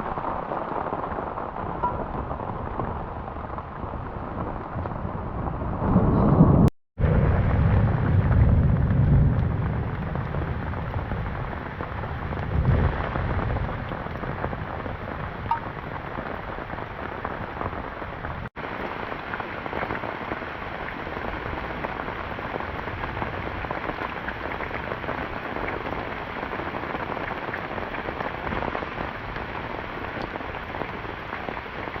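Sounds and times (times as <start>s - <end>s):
heavy rain falling: 0.0s - 32.0s
thunder rumbling: 0.0s - 32.0s.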